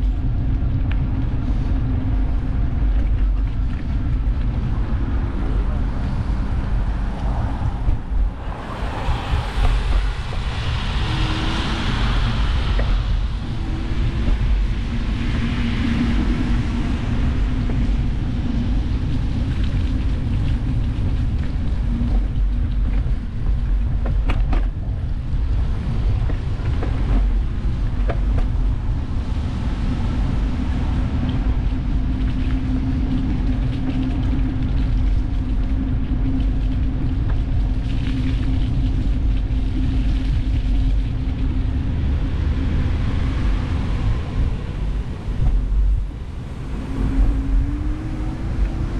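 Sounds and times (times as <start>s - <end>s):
low rumble of bicycle ride: 0.0s - 48.9s
wind buffeting microphone: 0.0s - 48.9s.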